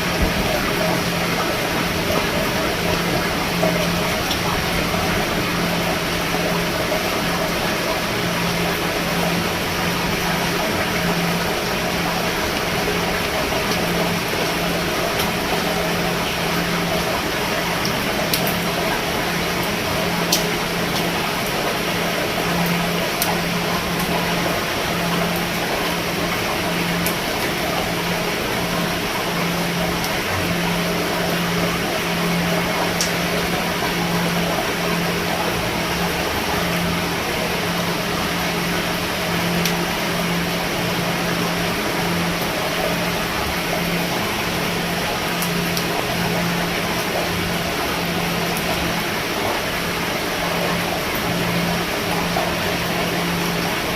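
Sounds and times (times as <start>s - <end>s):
rain on a roof: 0.0s - 53.9s.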